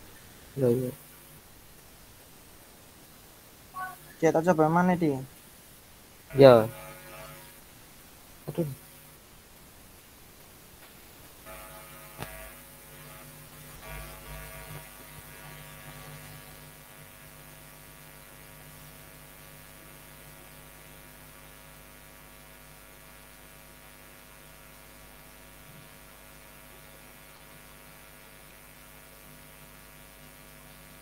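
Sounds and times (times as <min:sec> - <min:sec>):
electrical mains hum: 0:00.0 - 0:31.0
faint hiss: 0:00.0 - 0:31.0.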